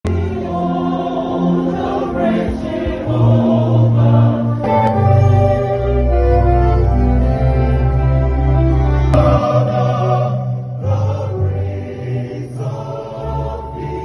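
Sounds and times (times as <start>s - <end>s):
choir singing held chords: 0.1s - 14.0s.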